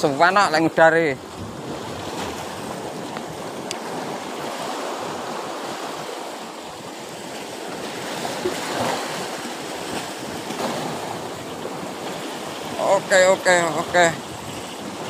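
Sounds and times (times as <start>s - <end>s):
sea surf breaking: 0.0s - 15.0s.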